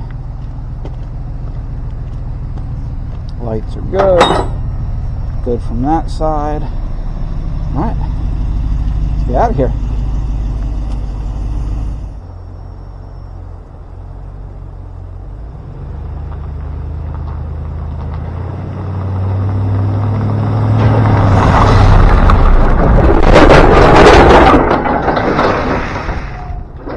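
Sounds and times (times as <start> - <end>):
pickup truck engine accelerating: 0.0 - 26.9
loud rumbling clatter: 1.4 - 12.6, 15.4 - 26.9.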